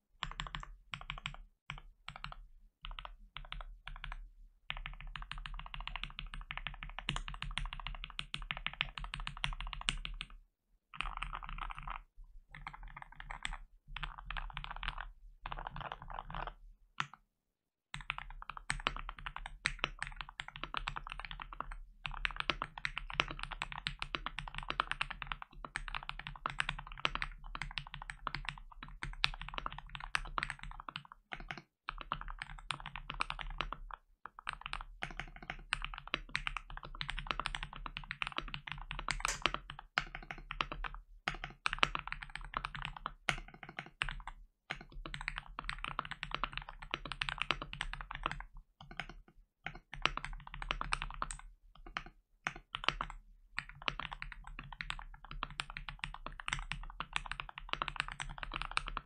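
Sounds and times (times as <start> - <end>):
fast typing on mechanical keyboard: 0.2 - 10.4, 11.0 - 16.6, 17.9 - 59.0.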